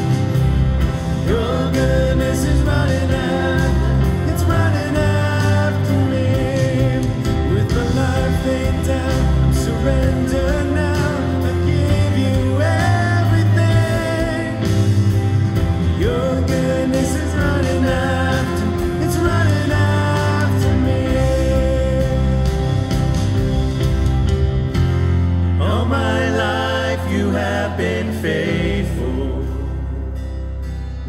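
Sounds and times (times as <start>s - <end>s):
worship band playing: 0.0s - 31.0s
person singing: 0.8s - 23.4s, 25.5s - 30.2s.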